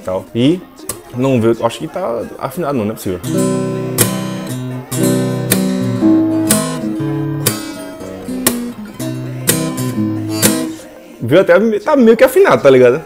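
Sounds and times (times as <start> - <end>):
acoustic guitar strumming chords: 0.0 - 11.4.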